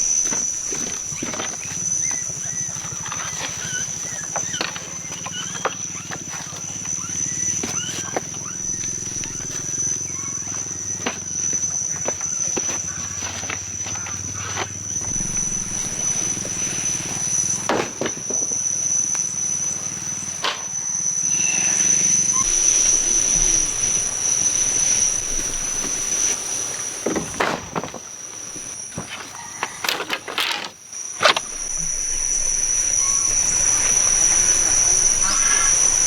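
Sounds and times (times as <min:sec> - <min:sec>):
high-pitched insect drone: 0:00.0 - 0:36.0.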